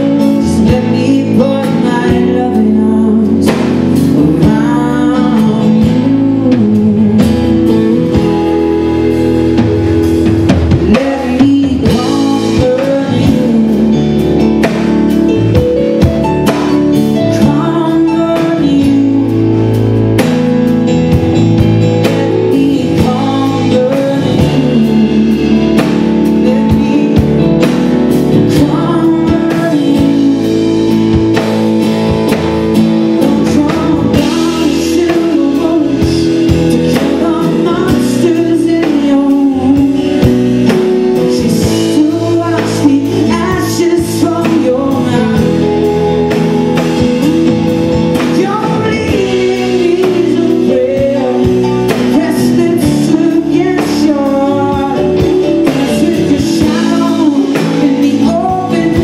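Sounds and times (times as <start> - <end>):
acoustic guitar: 0.0 - 59.0
drum kit: 0.0 - 59.0
electric guitar: 0.0 - 59.0
keyboard: 0.0 - 59.0
man singing lead vocal: 0.0 - 59.0.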